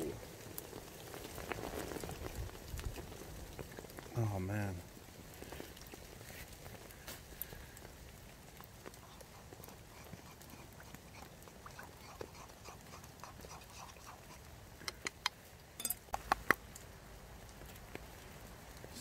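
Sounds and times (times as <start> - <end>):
campfire crackling: 0.0 - 19.0
rain: 0.0 - 19.0.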